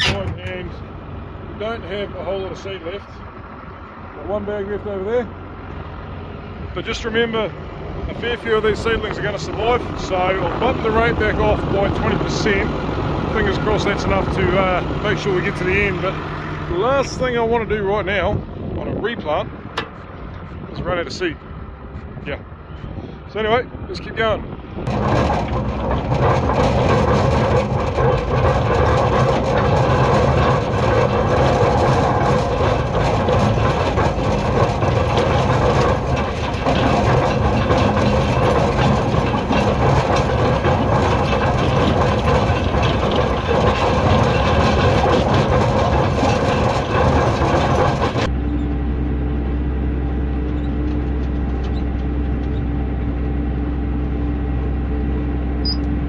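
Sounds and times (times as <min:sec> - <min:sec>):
implement clattering over ground: 0:00.0 - 0:21.4, 0:23.4 - 0:48.8, 0:50.0 - 0:53.7
tractor engine running: 0:00.0 - 0:22.8, 0:24.2 - 0:56.0.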